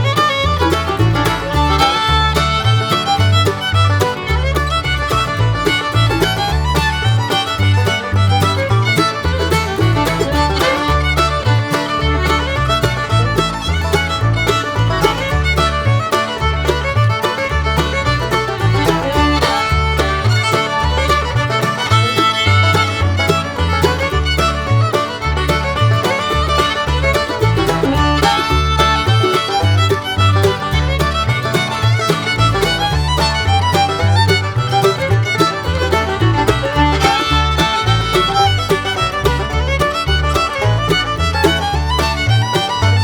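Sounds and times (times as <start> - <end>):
upbeat instrumental music: 0.0 - 43.0.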